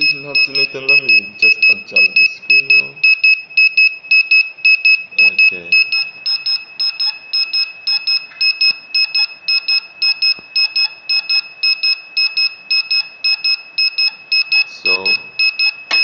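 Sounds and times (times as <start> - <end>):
alarm buzzer beeping in pairs: 0.0 - 16.0.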